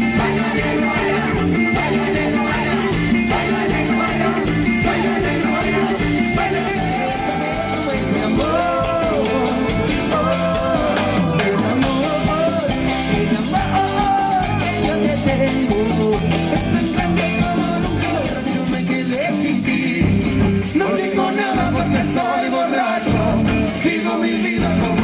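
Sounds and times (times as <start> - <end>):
latin dance music with singing: 0.0 - 25.0.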